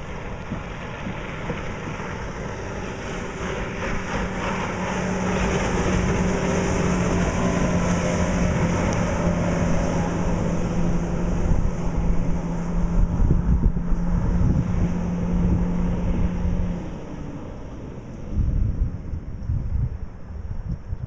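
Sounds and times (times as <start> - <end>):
outboard motor drone: 0.0 - 21.0.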